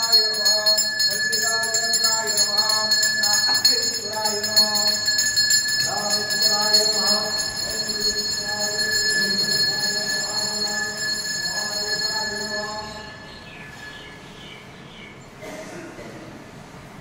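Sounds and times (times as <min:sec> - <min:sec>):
temple bell ringing rapidly: 0:00.0 - 0:14.2
voices: 0:00.0 - 0:14.8.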